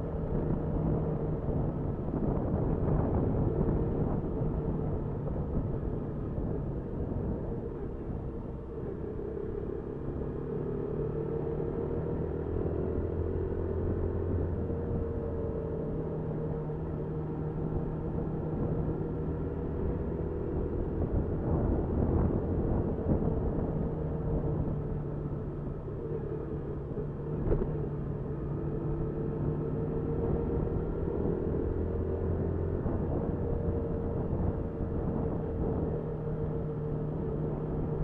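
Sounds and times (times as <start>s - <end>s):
motorcycle engine running: 0.0s - 38.0s
road and wind noise: 0.0s - 38.0s.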